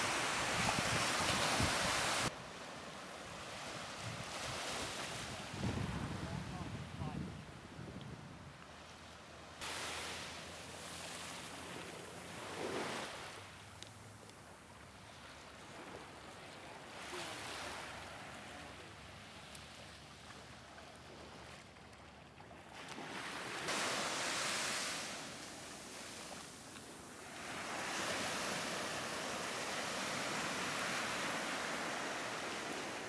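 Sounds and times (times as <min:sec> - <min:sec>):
waves washing up a beach: 0:00.0 - 0:07.2, 0:09.1 - 0:14.0, 0:14.7 - 0:21.9, 0:22.6 - 0:33.0.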